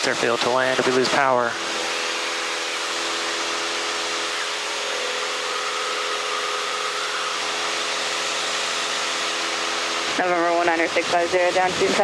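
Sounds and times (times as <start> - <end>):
airplane engine drone in cabin: 0.0 - 12.0.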